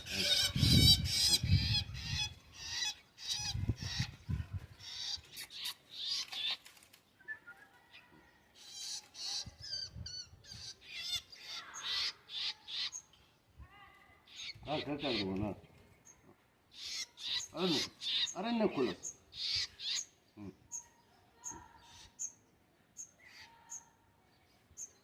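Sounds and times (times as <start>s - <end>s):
birds giving wavering calls: 0.0s - 13.4s, 14.2s - 24.0s.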